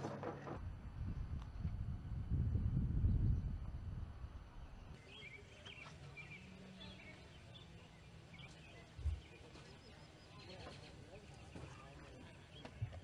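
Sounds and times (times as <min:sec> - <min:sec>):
quiet outdoor background noise: 0:00.0 - 0:13.0.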